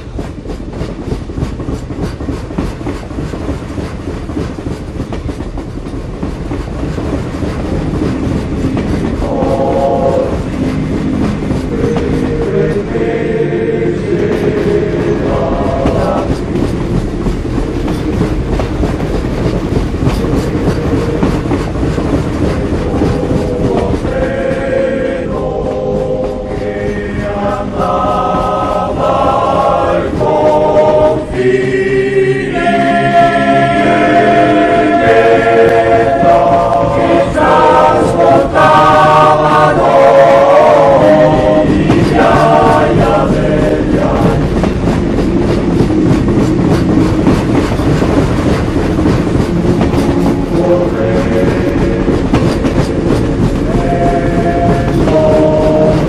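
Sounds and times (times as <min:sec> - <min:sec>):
train running on rails: 0:00.0 - 0:56.0
choir singing: 0:08.3 - 0:56.0.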